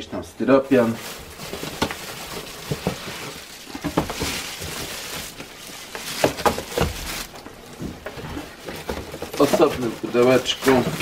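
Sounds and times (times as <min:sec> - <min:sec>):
plastic and cardboard rustling: 0:00.5 - 0:11.0.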